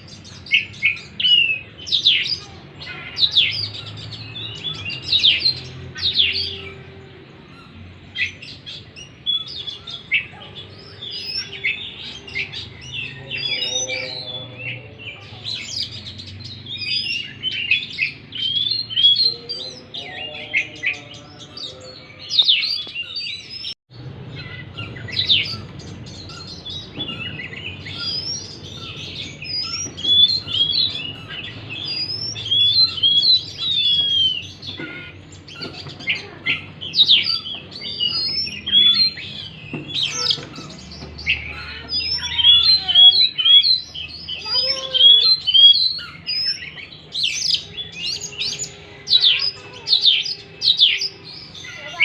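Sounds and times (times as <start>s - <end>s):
magpie-robin singing: 0.0s - 52.0s.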